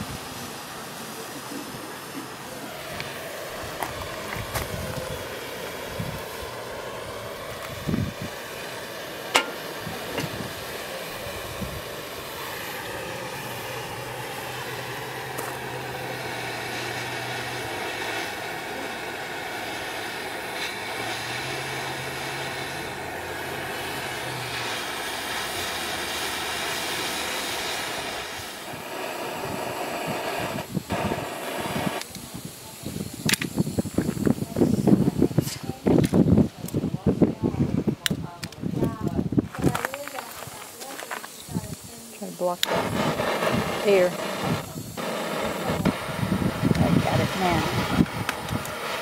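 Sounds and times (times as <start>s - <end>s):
gas torch hissing: 0.0s - 49.0s.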